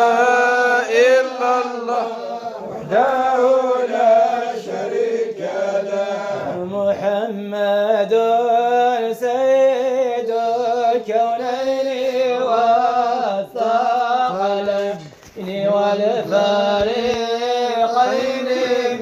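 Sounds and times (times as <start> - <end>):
person chanting devotional song: 0.0 - 19.0.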